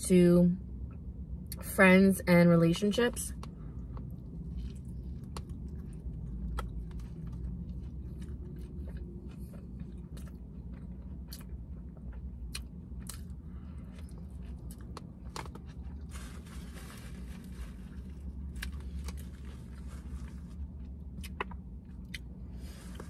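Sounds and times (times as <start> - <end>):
steady low hum: 0.0 - 23.0
person chewing with crunches: 3.4 - 23.0.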